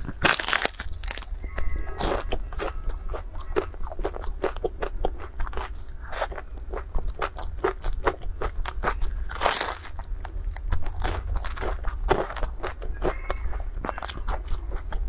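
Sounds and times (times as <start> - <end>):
crisp crunching of fried dough: 0.0 - 15.0.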